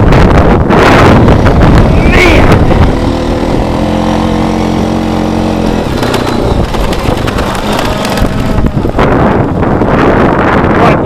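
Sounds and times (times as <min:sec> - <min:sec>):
atv engine running: 0:00.0 - 0:10.8.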